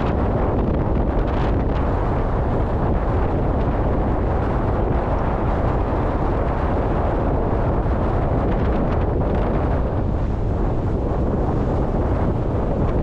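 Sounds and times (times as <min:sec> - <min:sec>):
rough waves on rocky shore: 0:00.0 - 0:13.0
wind buffeting microphone: 0:00.0 - 0:13.0.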